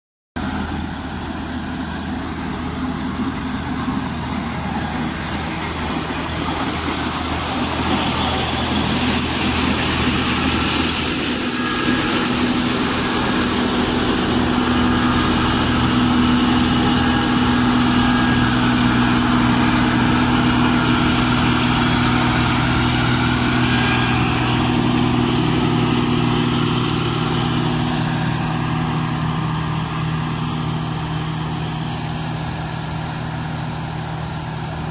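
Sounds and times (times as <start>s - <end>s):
combine harvester engine drone: 0.4s - 34.9s
machinery noise: 0.4s - 34.9s.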